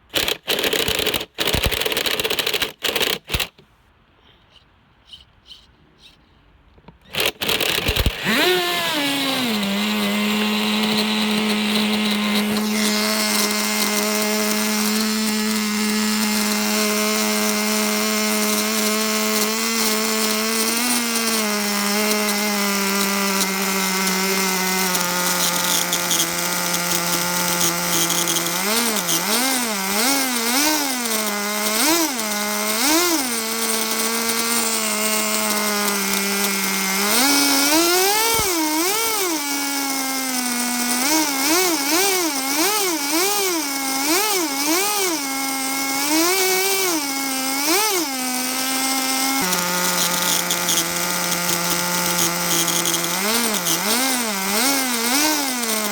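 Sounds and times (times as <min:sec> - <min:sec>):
small nitro engine idling: 0:07.0 - 0:55.9.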